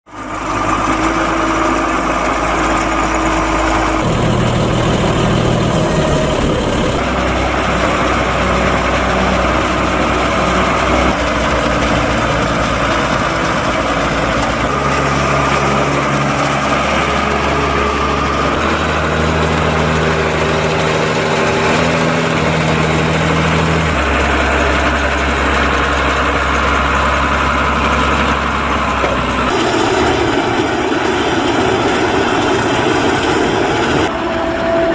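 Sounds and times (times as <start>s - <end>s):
diesel tractor engines running: 0.1s - 34.9s.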